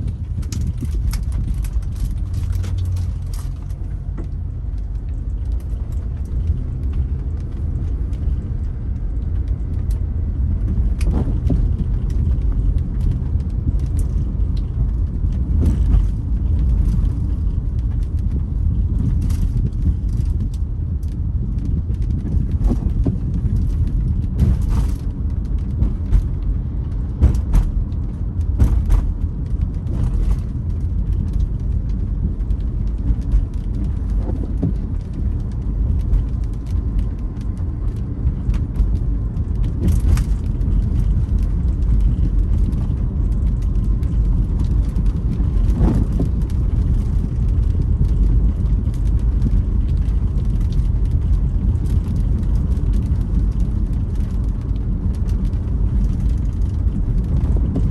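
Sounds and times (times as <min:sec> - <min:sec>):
tyres and engine rumble: 0:00.0 - 0:57.9.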